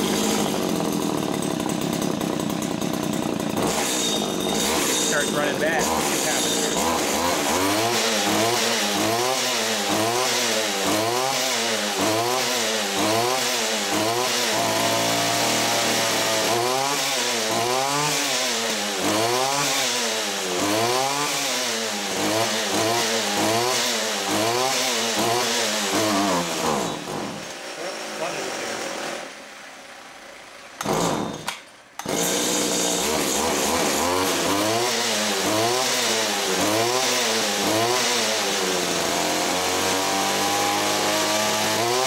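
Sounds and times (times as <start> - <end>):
trimmer engine surging: 0.0 - 42.0.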